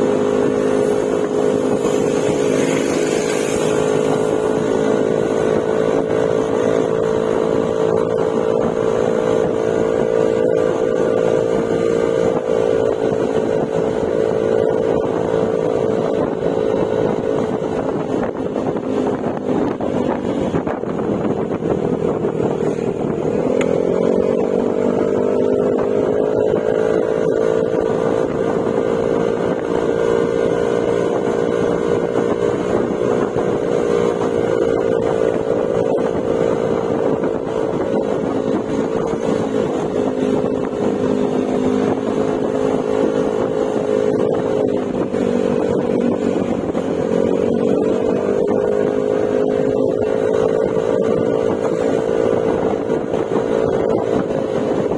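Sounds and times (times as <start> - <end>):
scooter engine running: 0.0 - 54.9.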